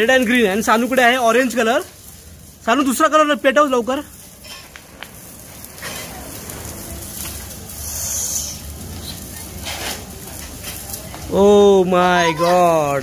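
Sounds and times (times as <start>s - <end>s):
sparklers fizzing and crackling: 0.0s - 13.0s.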